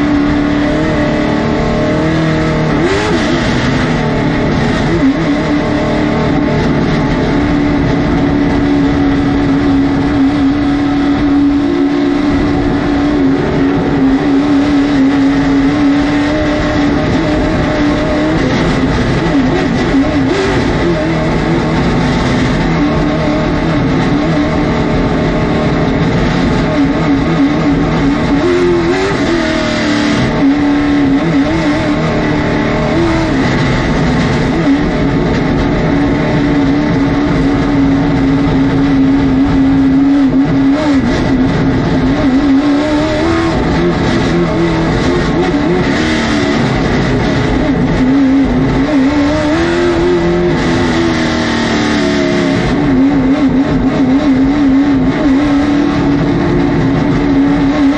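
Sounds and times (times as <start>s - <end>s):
race car engine at speed: 0.0s - 57.9s.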